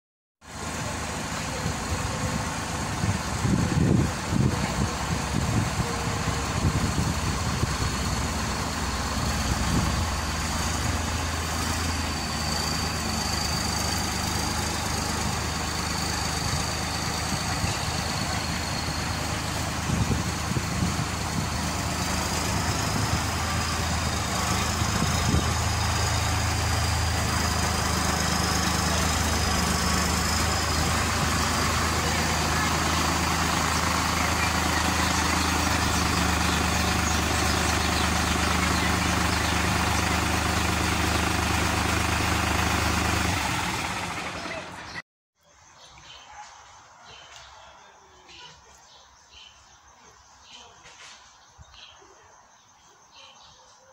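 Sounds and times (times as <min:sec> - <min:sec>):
tractor diesel engine running: 0:00.4 - 0:45.0.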